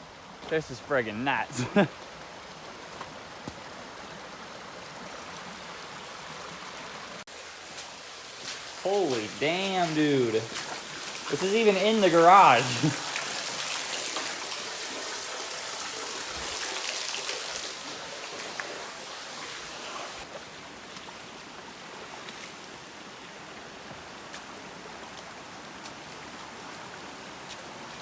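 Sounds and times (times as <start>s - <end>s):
floodwater running and trickling: 0.0s - 28.0s.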